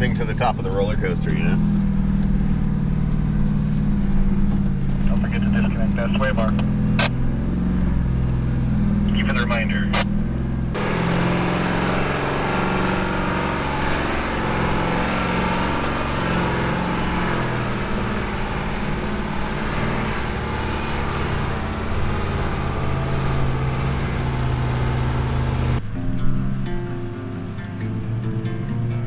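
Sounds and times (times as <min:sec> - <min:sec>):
off-road vehicle engine droning: 0:00.0 - 0:29.0.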